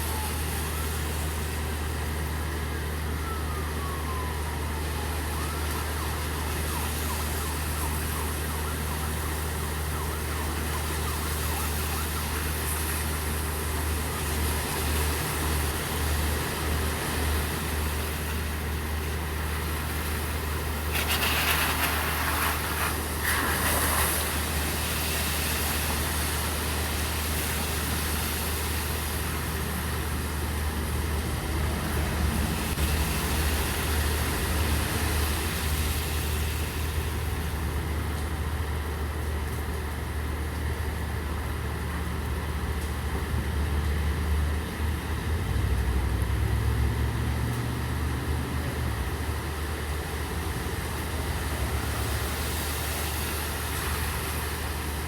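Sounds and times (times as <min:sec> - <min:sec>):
car driving through water: 0:00.0 - 0:55.0
rain hiss: 0:00.0 - 0:55.0.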